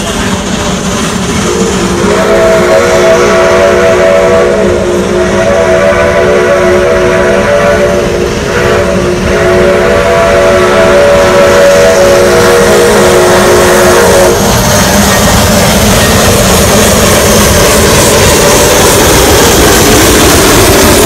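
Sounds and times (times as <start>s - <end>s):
steam locomotive chime whistle: 1.4s - 21.0s.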